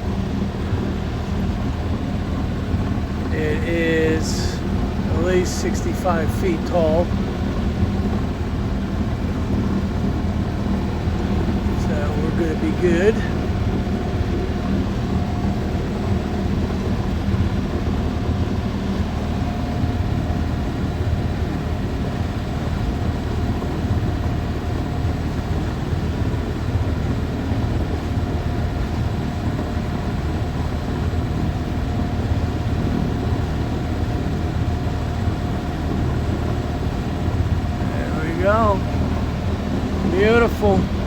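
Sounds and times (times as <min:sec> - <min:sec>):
boat engine rumbling: 0:00.0 - 0:41.0
faint steady hum: 0:00.0 - 0:41.0
wind and water noise: 0:00.0 - 0:41.0.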